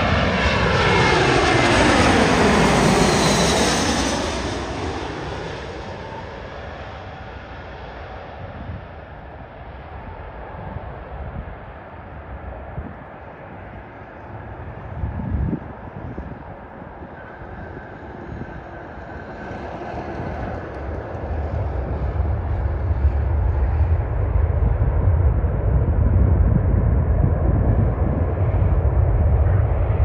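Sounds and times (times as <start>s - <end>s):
airplane engines rumbling: 0.0s - 30.0s.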